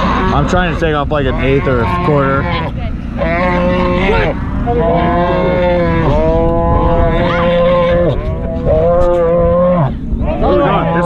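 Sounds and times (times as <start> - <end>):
calf bawling: 0.0 - 11.0.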